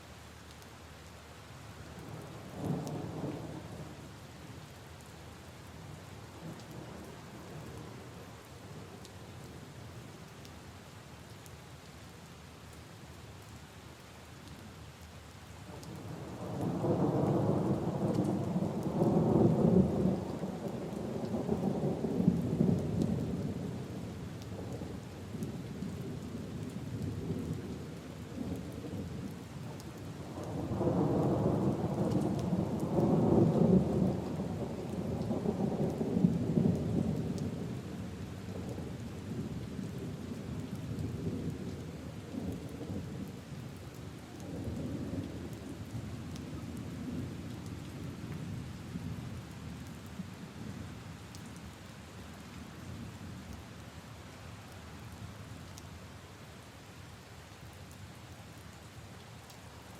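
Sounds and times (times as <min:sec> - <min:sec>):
rain on leaves and puddles: 0:00.0 - 0:59.9.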